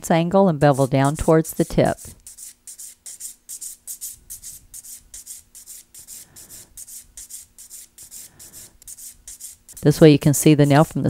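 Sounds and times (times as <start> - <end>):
nail file rasping: 0.6 - 11.0.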